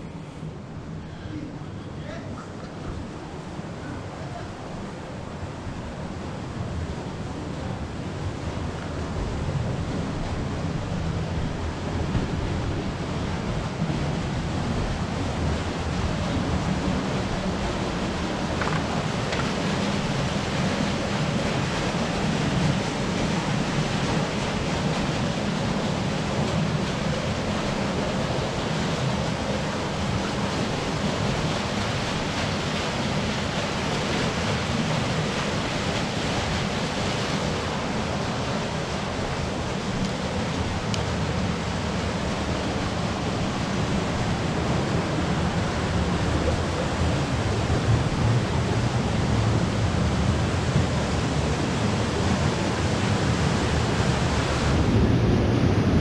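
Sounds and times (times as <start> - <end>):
stream rushing over rocks: 3.0 - 56.0.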